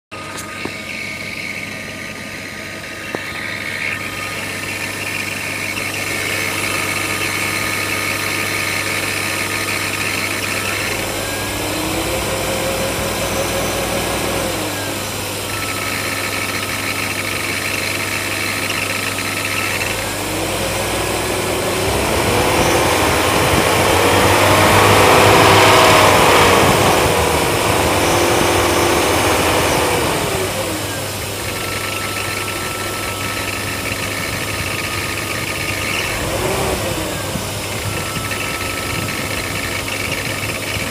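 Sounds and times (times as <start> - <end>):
car engine idling and revving: 0.0 - 40.9.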